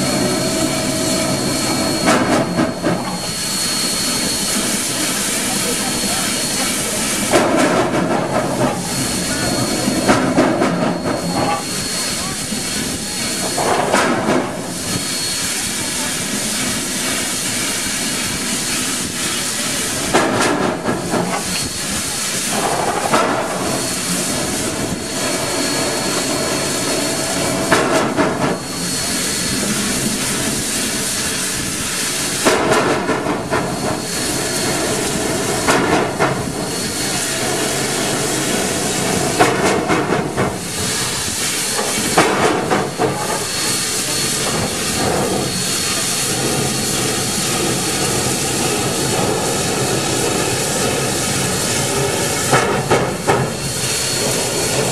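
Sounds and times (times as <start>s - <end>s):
steam hissing: 0.0s - 54.9s
steam locomotive chuffing: 0.0s - 54.9s.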